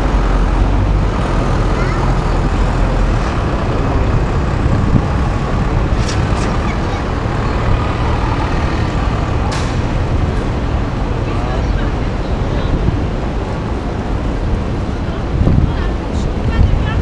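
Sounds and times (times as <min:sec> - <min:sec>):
city street traffic roar: 0:00.0 - 0:17.0.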